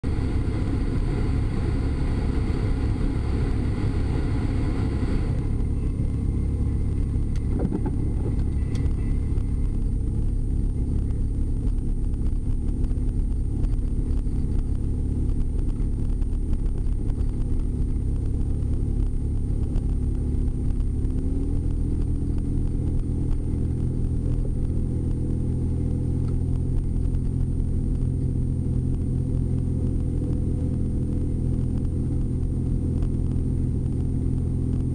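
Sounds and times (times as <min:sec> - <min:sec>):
car engine hum: 0:00.0 - 0:34.9
road noise: 0:00.0 - 0:34.9.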